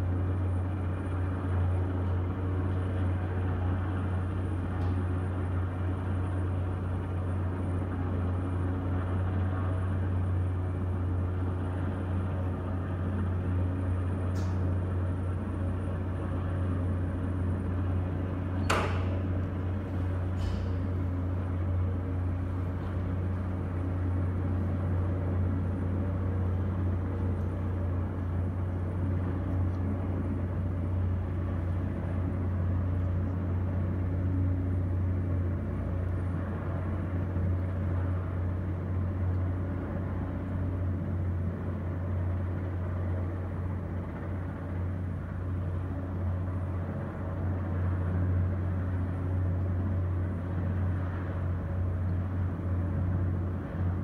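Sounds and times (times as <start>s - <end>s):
helicopter hovering: 0.0s - 18.6s, 19.2s - 54.0s.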